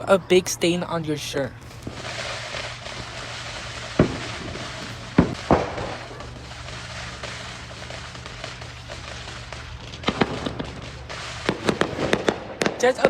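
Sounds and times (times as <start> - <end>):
distant fireworks crackling: 0.0 - 13.0
firework bangs: 0.0 - 13.0.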